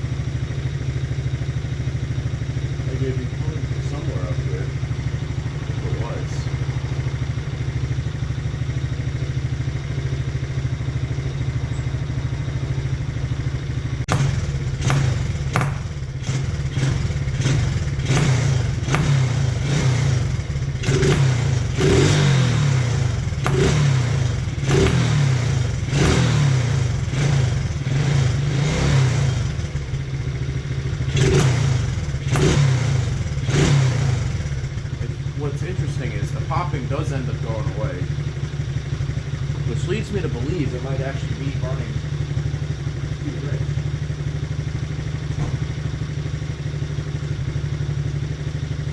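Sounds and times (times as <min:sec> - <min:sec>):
atv engine idling and revving: 0:00.0 - 0:48.9
exhaust popping: 0:02.2 - 0:42.2.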